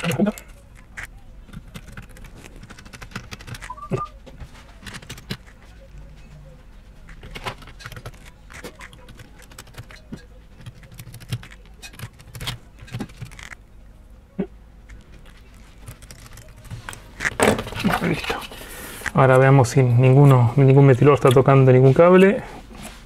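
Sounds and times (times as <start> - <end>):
handling noise: 0.0 - 13.7, 14.8 - 23.0.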